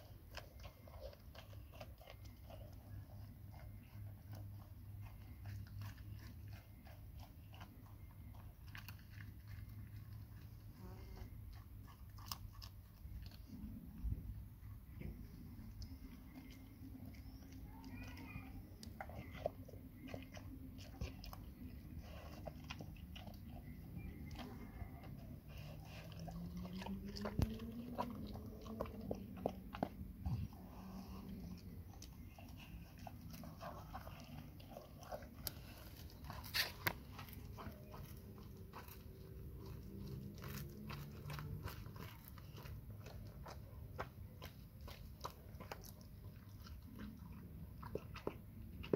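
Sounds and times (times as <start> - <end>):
dog chewing and crunching: 0.0 - 48.9.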